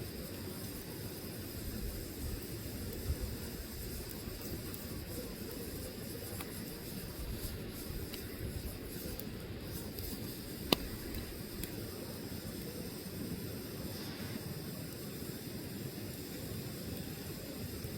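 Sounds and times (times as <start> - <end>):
burning logs crackling: 0.0 - 17.9
fire popping: 0.0 - 17.9
low rumble of flames: 0.0 - 17.9.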